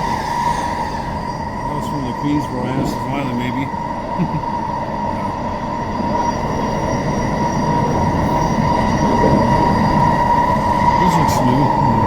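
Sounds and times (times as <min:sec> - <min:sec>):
constant high whine: 0:00.0 - 0:12.0
train rumbling on track: 0:00.0 - 0:12.0.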